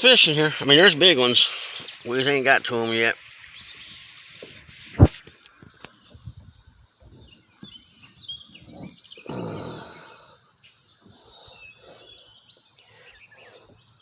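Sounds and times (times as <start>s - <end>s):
faint outdoor background: 0.0s - 14.0s
songbirds chirping: 0.0s - 14.0s.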